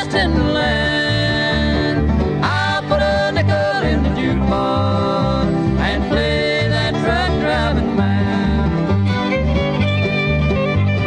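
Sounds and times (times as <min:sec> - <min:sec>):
acoustic guitar: 0:00.0 - 0:11.0
mandolin: 0:00.0 - 0:11.0.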